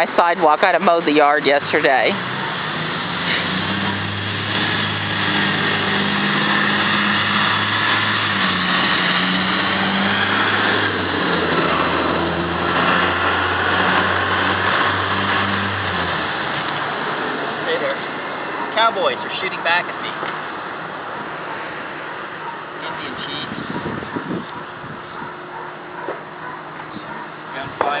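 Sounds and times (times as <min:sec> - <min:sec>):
fire truck engine droning: 0:00.0 - 0:28.0.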